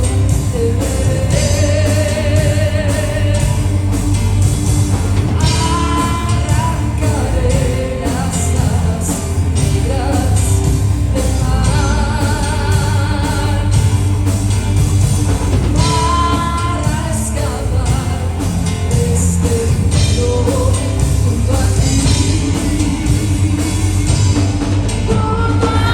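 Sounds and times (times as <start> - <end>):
rock band guitars and drums: 0.0 - 25.9.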